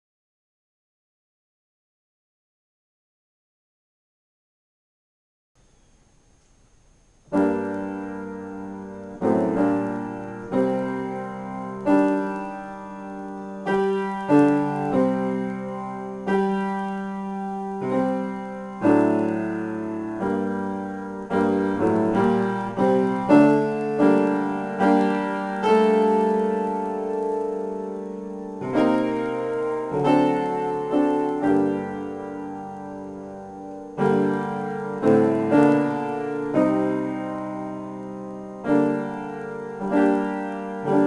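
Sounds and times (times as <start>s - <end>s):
slow piano chords: 5.6s - 41.0s.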